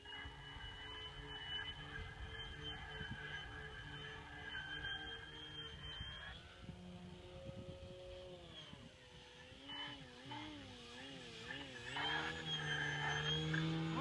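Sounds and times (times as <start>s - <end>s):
model airplane motor whining: 0.0s - 14.0s.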